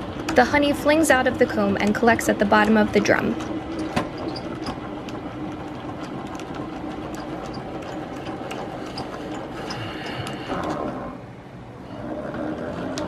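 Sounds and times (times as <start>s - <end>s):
honey extractor whirring: 0.0s - 12.0s.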